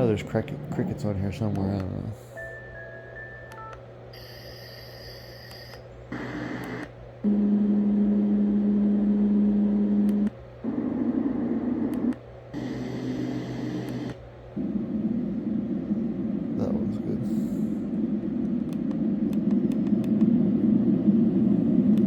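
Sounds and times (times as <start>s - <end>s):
low hum with buzzing hiss: 0.0s - 22.0s
white noise machine sounds: 0.0s - 22.0s.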